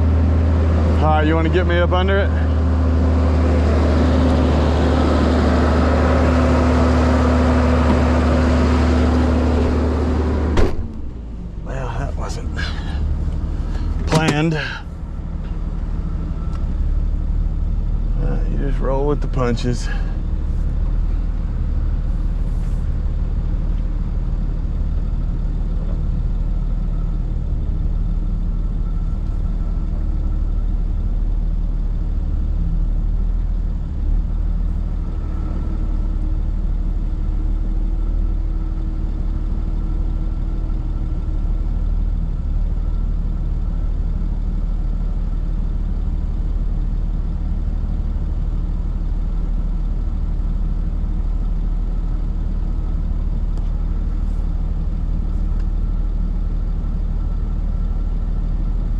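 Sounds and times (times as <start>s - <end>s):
truck engine rumbling: 0.0s - 58.9s.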